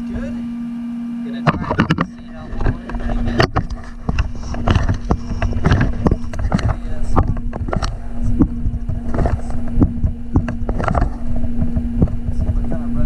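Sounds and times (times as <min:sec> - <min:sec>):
steady low hum: 0:00.0 - 0:13.0
camera knocking and rattling: 0:01.5 - 0:13.0.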